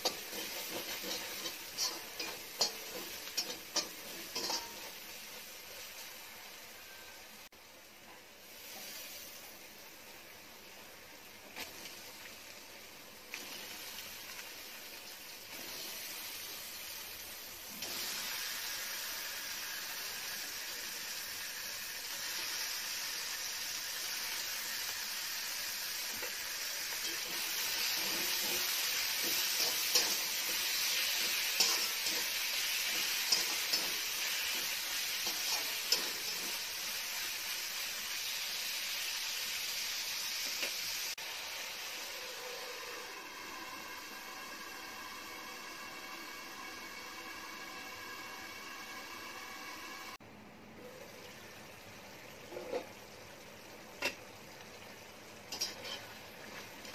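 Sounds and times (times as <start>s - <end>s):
liver sizzling in hot oil: 0.0s - 50.2s, 50.9s - 56.9s.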